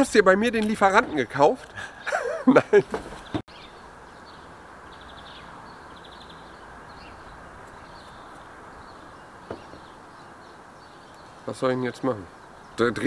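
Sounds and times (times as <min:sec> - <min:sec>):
outdoor ambience rush: 0:00.0 - 0:13.0
songbirds chirping: 0:00.0 - 0:13.0.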